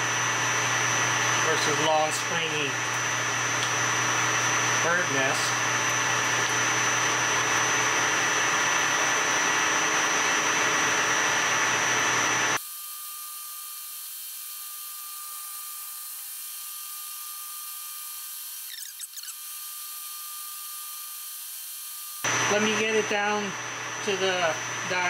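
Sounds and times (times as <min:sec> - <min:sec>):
lathe motor humming: 0:00.0 - 0:12.6, 0:13.8 - 0:25.0
lathe cutting steel with high whine: 0:00.0 - 0:25.0.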